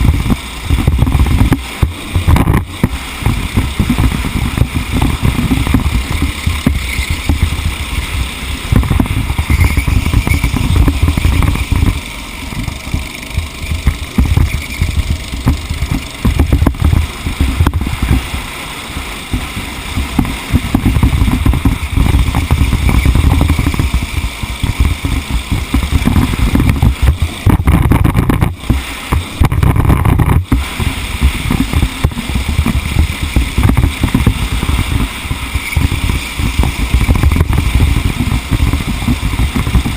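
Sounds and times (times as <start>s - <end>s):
vehicle engine rumbling under load: 0.0s - 39.9s.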